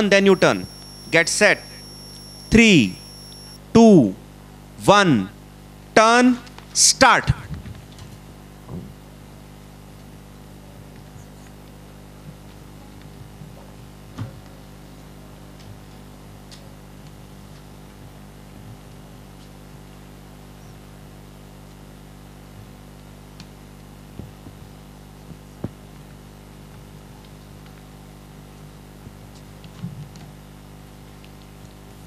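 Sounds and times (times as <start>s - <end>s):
mains hum: 0.0s - 32.0s.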